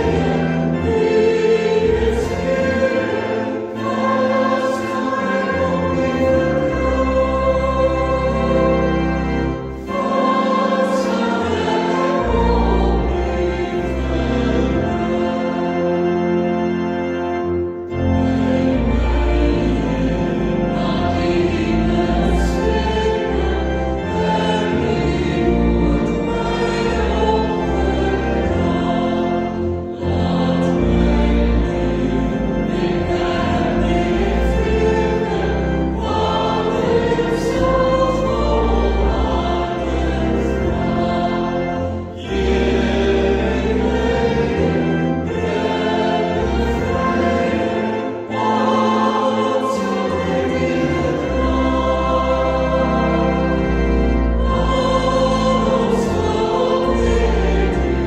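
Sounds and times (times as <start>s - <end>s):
people singing a worship song: 0.0s - 15.6s, 18.9s - 58.0s.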